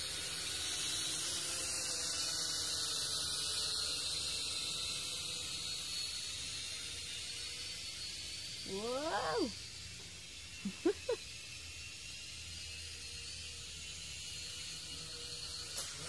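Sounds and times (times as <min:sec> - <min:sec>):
toy drone propellers whining: 0:00.0 - 0:16.0.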